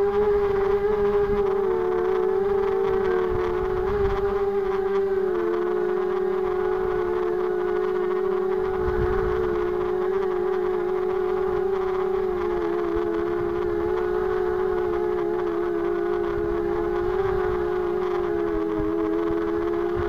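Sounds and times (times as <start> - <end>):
drone buzzing whine: 0.0 - 20.0.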